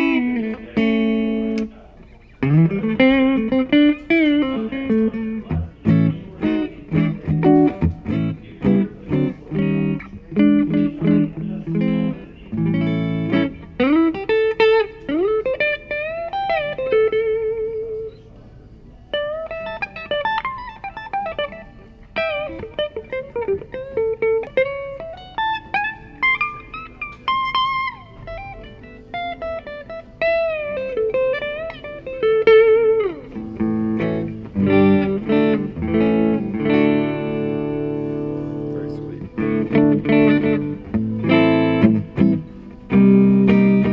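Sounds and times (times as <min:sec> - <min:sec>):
clean electric guitar: 0:00.0 - 0:43.9.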